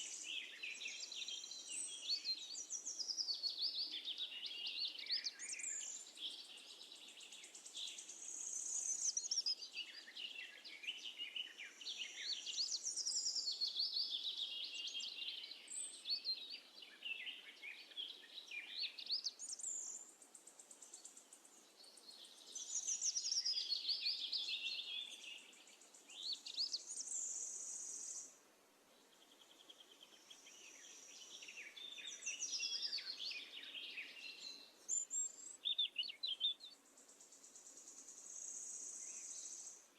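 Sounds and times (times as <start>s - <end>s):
sparrows chirping: 0.0s - 28.3s, 29.0s - 39.9s.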